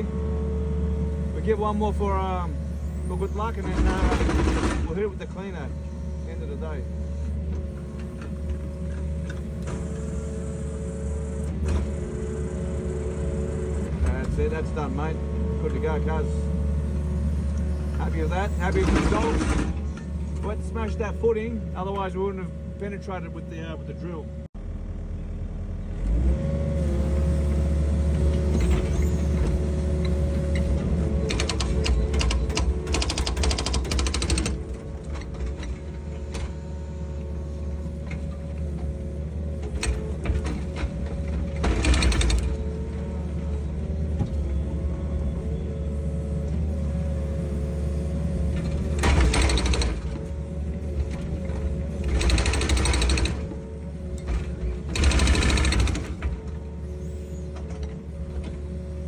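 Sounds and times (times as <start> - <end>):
diesel engine running: 0.0 - 59.0
hydraulic auger whine: 0.0 - 59.0.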